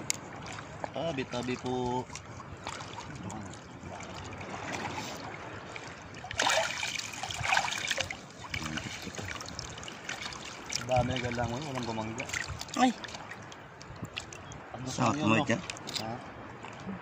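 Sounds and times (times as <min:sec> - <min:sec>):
sea water sloshing and trickling: 0:00.0 - 0:17.0
water splashing: 0:00.0 - 0:17.0.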